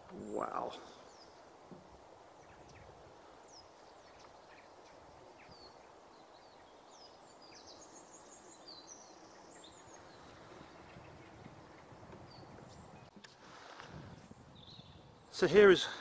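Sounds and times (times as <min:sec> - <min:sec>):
birds chirping: 0:00.0 - 0:16.0
faint steady background hiss: 0:00.0 - 0:16.0.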